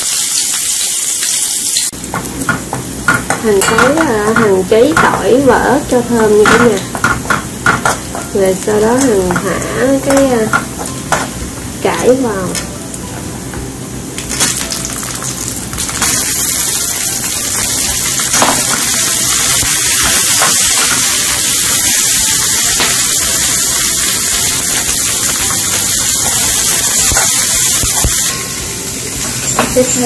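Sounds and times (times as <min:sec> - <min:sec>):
cabbage sizzling in hot oil: 0:00.0 - 0:10.8, 0:14.0 - 0:30.0.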